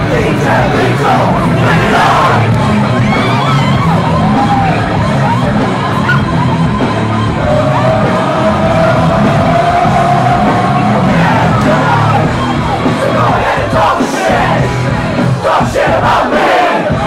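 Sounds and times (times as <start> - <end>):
crowd yelling and singing along: 0.0 - 17.0
loud rock music: 0.0 - 17.0.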